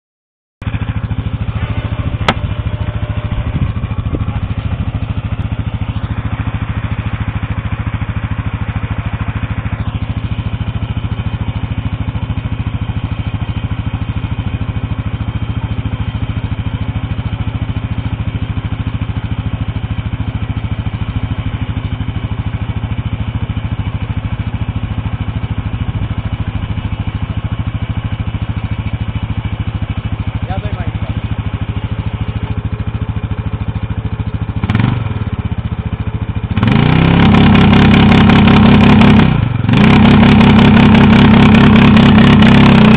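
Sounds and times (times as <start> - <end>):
atv engines idling: 0.6 - 42.9.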